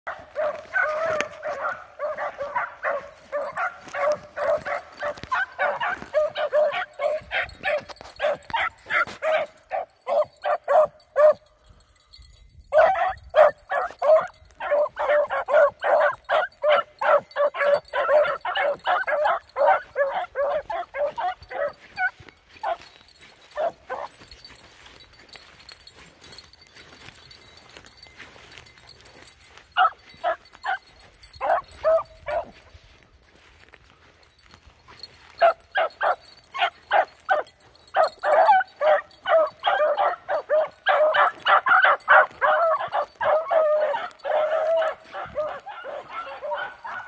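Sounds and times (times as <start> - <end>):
hound puppies baying: 0.1 - 47.0.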